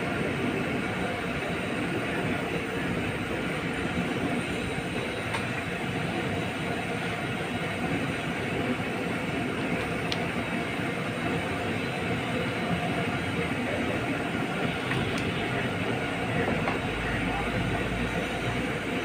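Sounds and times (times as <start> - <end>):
pot boiling hard: 0.0 - 19.0.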